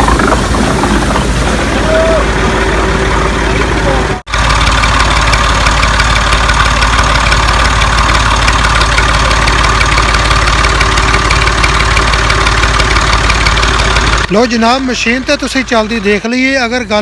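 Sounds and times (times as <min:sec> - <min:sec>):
washing machine mechanical drone: 0:00.0 - 0:16.2.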